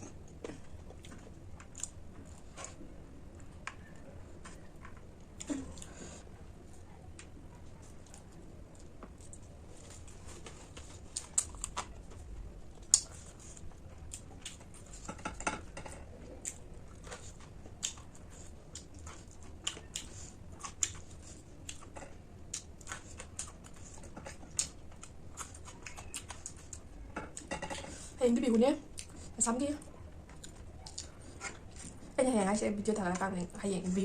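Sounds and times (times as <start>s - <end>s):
chewing crisp snack food: 0.0s - 28.2s, 28.8s - 32.2s.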